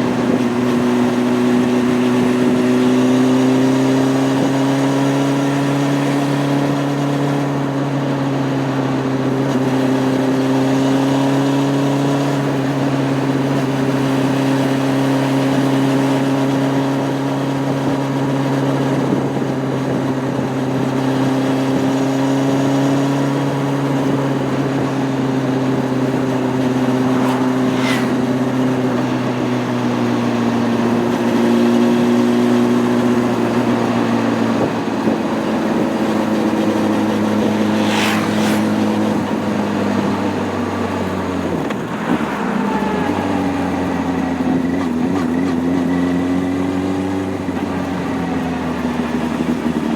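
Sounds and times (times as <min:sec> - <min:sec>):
motorcycle engine cruising: 0:00.0 - 0:49.9.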